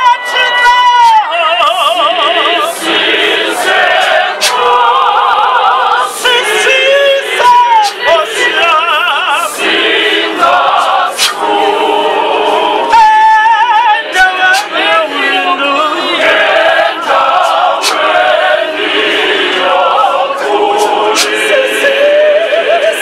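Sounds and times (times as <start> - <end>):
choir singing unaccompanied: 0.0 - 23.0.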